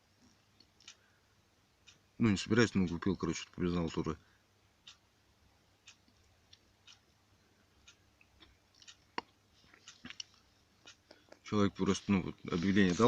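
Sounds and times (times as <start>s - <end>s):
faint clicks and ticks: 0.0s - 13.0s.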